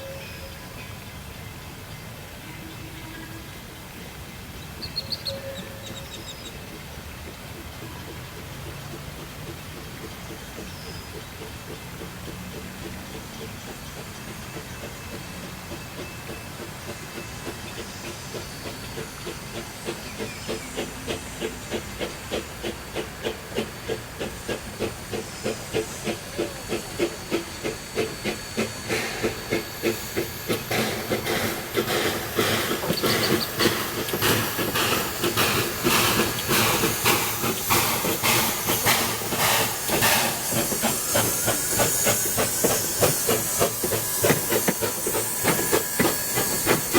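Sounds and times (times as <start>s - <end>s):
steam locomotive chuffing: 0.0s - 46.9s
steam hissing: 3.7s - 46.9s.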